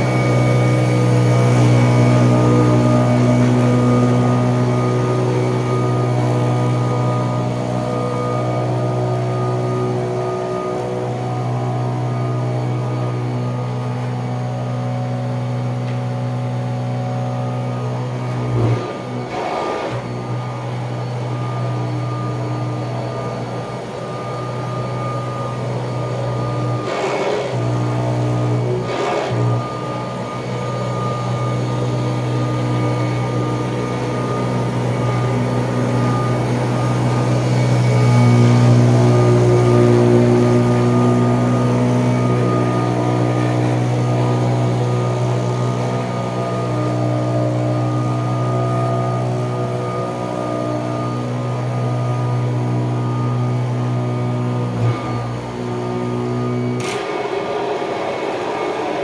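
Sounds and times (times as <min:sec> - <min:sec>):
vacuum cleaner on carpet: 0:00.0 - 0:59.0.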